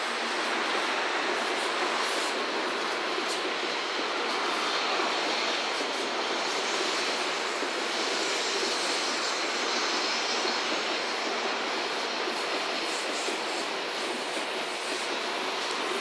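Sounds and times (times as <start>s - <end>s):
train rushing past: 0.0s - 16.0s.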